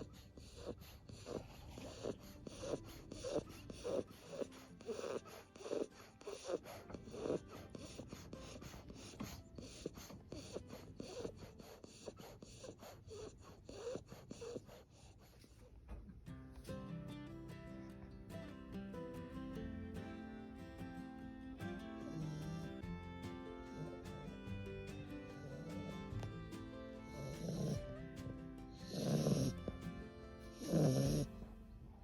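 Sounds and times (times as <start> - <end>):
music: 0.0 - 13.0, 16.2 - 32.0
dog snoring: 0.0 - 15.7, 21.4 - 32.0.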